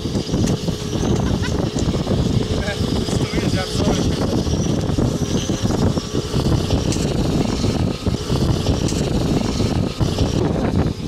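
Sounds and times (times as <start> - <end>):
gusting wind rushing: 0.0 - 11.0.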